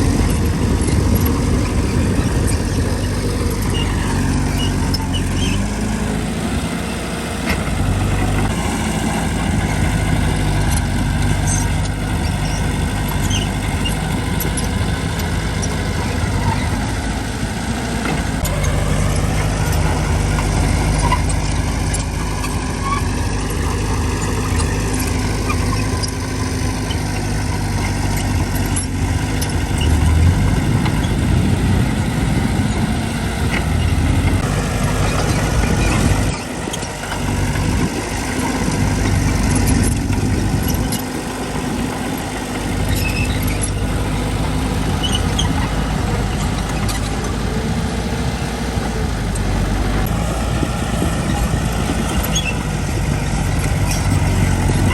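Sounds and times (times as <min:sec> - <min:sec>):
heavy machinery diesel engine: 0:00.0 - 0:54.9.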